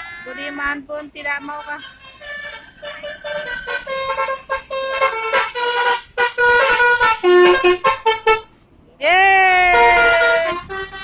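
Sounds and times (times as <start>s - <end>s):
musical bus horn: 0.2s - 8.6s, 9.6s - 11.0s.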